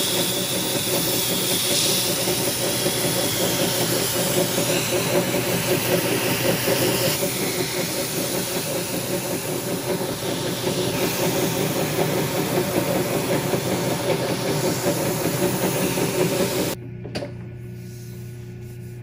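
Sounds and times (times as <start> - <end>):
lathe running hum: 0.0 - 16.8.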